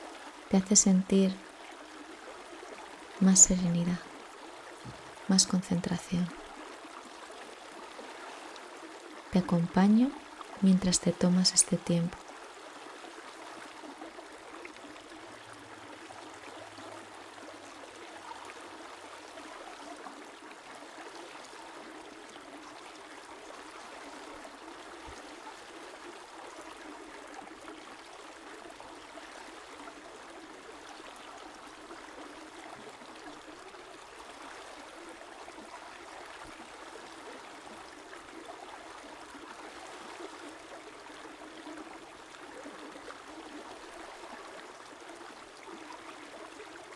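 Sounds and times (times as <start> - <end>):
river flowing: 0.0 - 46.9.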